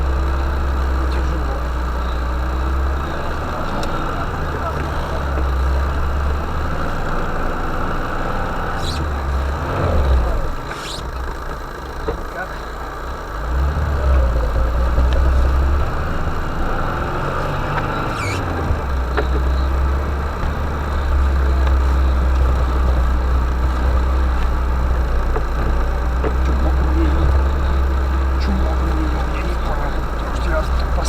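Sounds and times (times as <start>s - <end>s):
car engine drone: 0.0s - 31.0s.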